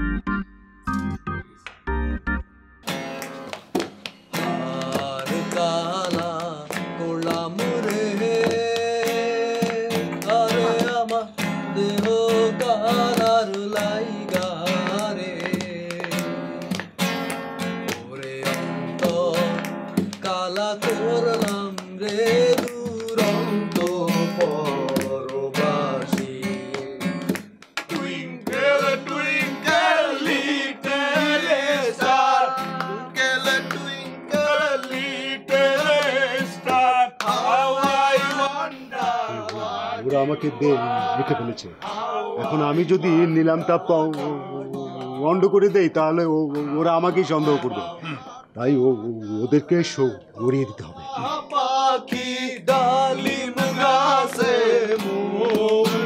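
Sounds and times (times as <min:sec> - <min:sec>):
acoustic guitar: 0:00.0 - 0:56.0
person singing: 0:04.4 - 0:16.8, 0:18.0 - 0:27.3, 0:27.9 - 0:45.4, 0:46.6 - 0:56.0.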